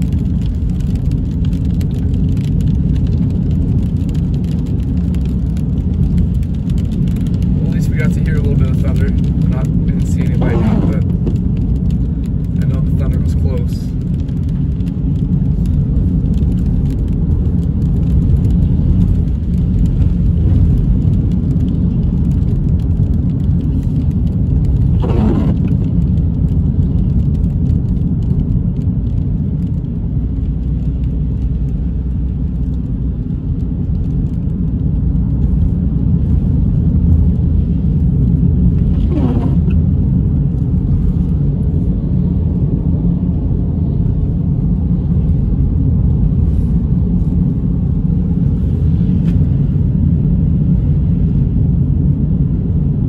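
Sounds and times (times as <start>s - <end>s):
car cabin road and engine rumble: 0.0s - 53.0s.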